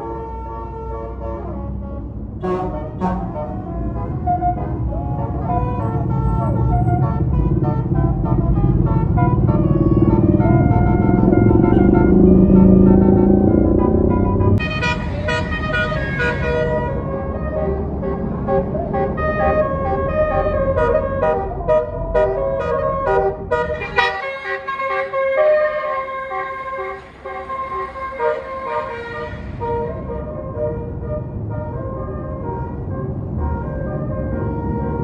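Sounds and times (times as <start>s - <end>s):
bus engine rumble: 0.0s - 35.0s
multi-tone bus horn tune: 0.0s - 35.0s.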